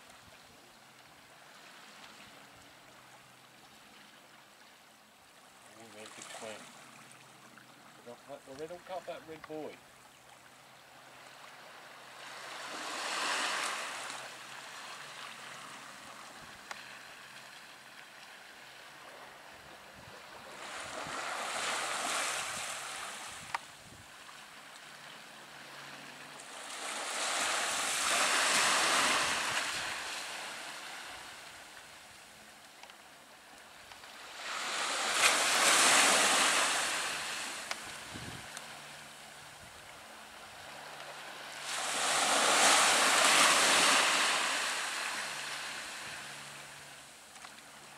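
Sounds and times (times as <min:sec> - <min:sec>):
small waves washing ashore: 0:00.0 - 0:47.9.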